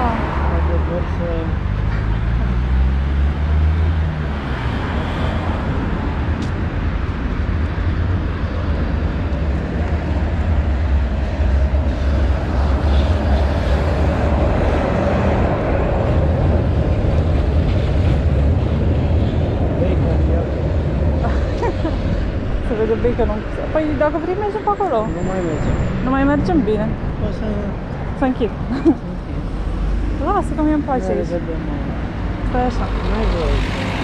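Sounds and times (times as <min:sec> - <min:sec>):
cars passing: 0:00.0 - 0:34.0
tram approaching: 0:03.5 - 0:34.0.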